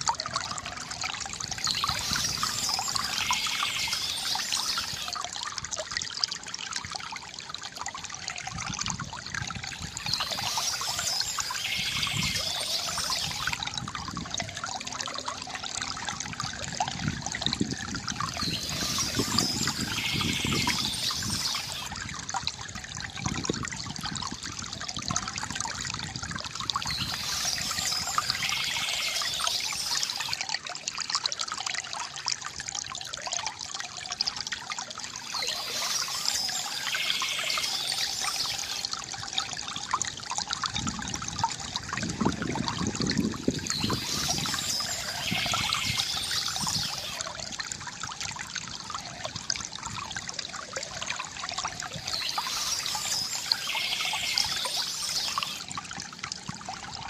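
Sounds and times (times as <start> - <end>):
water trickling from bamboo fountain: 0.0 - 57.0.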